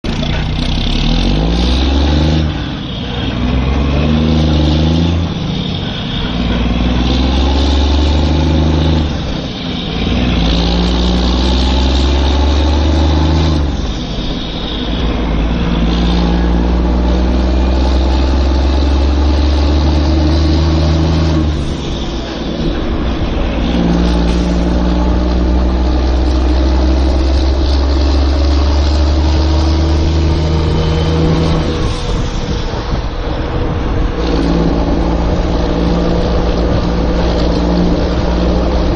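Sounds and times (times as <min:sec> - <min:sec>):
heavy vehicle engine revving: 0:00.0 - 0:38.9.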